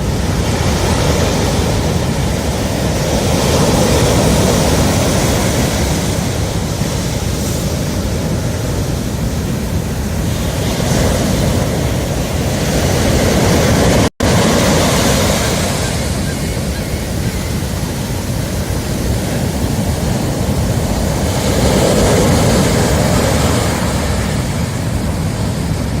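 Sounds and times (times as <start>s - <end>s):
ocean surf on beach: 0.0s - 26.0s.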